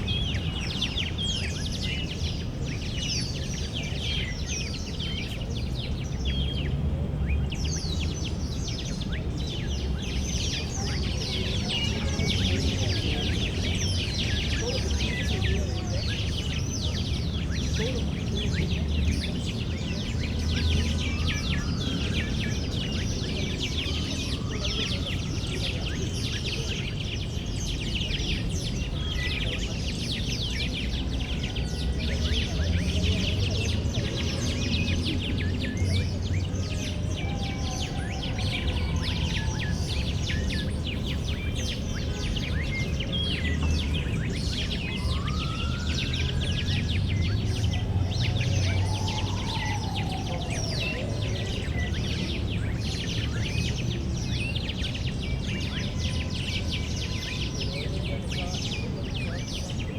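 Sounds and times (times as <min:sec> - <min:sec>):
birds chirping and singing: 0:00.0 - 0:59.9
distant city traffic rumble: 0:00.0 - 0:59.9.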